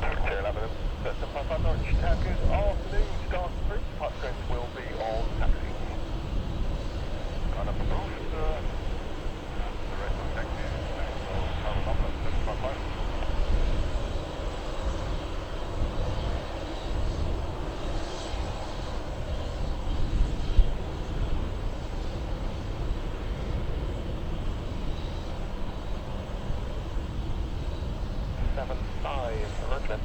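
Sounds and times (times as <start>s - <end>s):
aircraft engine noise: 0.0s - 30.0s.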